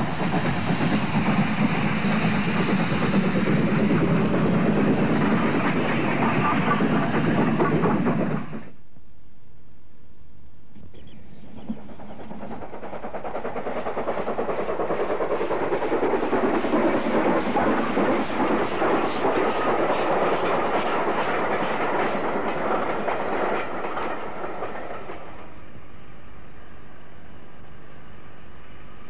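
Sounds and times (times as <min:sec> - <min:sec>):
steam train passing on rails: 0:00.0 - 0:08.8, 0:10.8 - 0:29.0.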